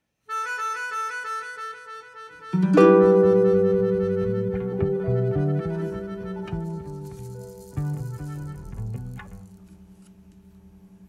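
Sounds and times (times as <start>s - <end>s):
instrumental music: 0.3s - 11.0s.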